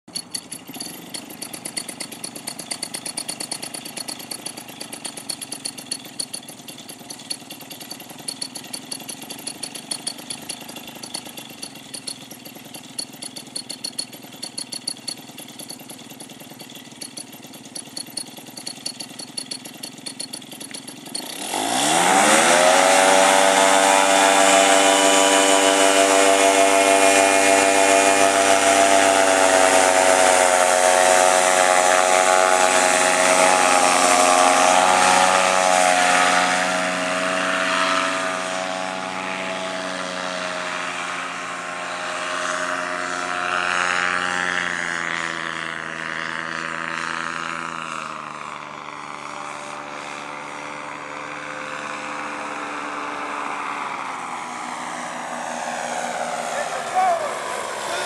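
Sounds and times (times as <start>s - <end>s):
propeller noise: 0.0s - 58.0s
two-stroke engine revving: 0.0s - 58.0s.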